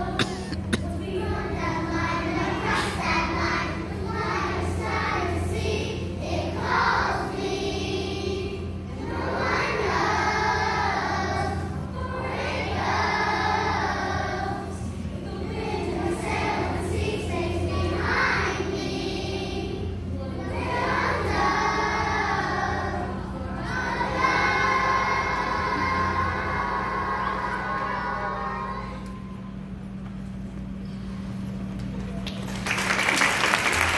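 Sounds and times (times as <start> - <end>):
children's choir singing: 0.0 - 29.4
steady low hum: 0.0 - 33.9.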